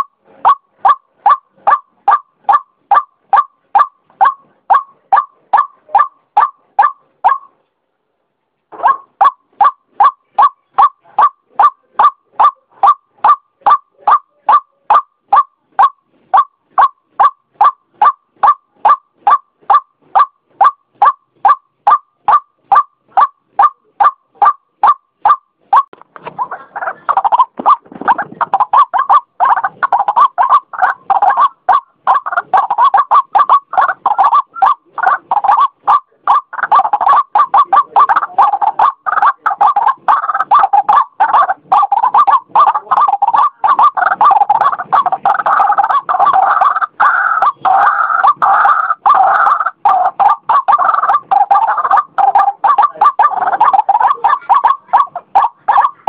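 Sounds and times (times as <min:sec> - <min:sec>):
waterhen calling: 0:00.0 - 0:07.6, 0:08.7 - 0:56.0.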